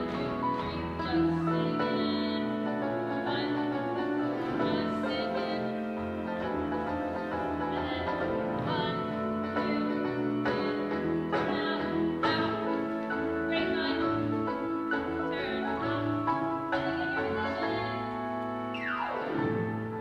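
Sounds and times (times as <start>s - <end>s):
orchestral music: 0.0s - 20.0s.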